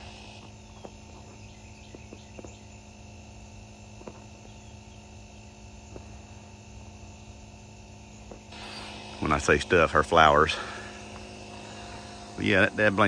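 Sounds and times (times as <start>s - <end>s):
tire inflator humming: 0.0s - 13.0s.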